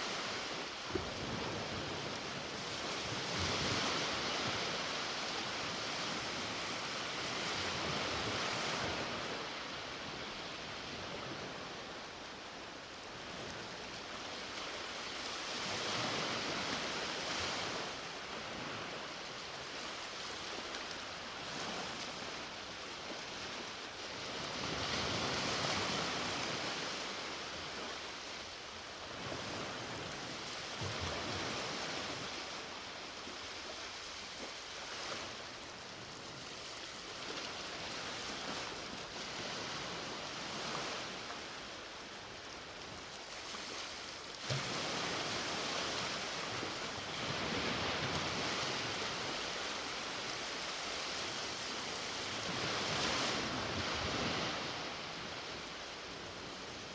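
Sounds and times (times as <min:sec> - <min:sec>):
ocean waves on beach: 0:00.0 - 0:56.9.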